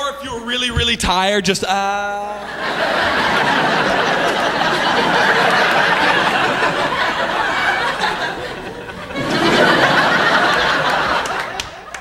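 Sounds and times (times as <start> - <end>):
large audience laughing: 2.4 - 12.0.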